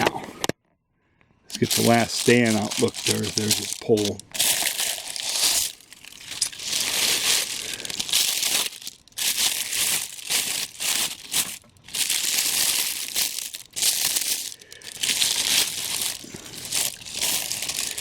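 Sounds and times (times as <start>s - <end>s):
packing material crinkling: 1.5s - 18.0s.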